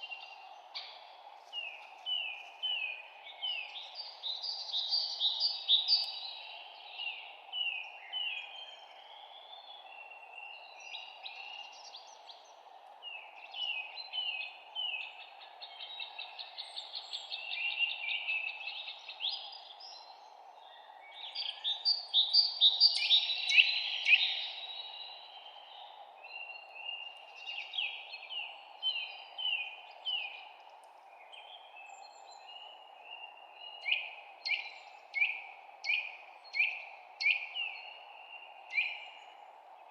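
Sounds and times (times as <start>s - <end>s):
low background hiss: 0.0s - 39.9s
songbirds chirping and trilling: 0.0s - 39.9s.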